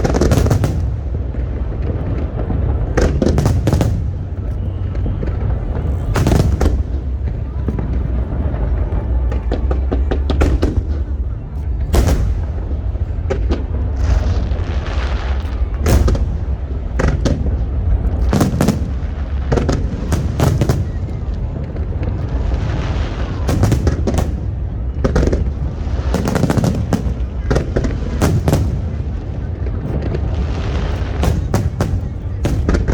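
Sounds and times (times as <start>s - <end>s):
continuous low rumble: 0.0s - 32.9s
fireworks bursting: 0.0s - 32.9s.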